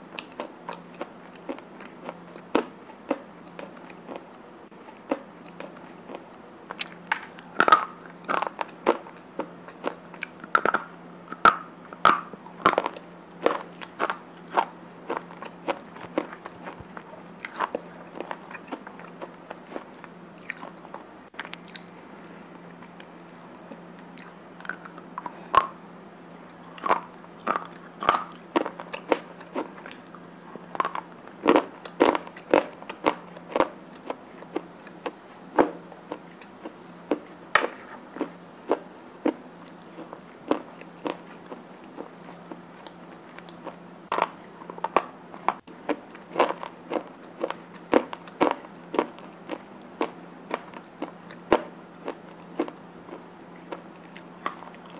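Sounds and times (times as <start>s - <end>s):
steady low hum: 0.0s - 54.9s
slate pencils being chewed: 0.1s - 54.9s.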